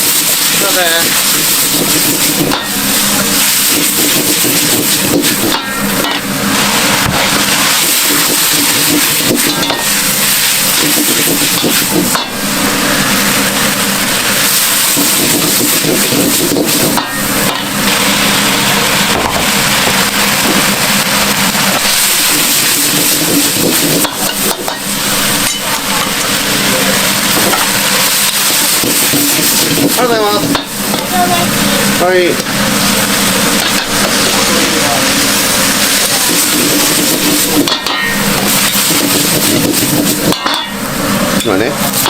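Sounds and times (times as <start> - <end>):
noodles sizzling on a griddle: 0.0 - 42.0.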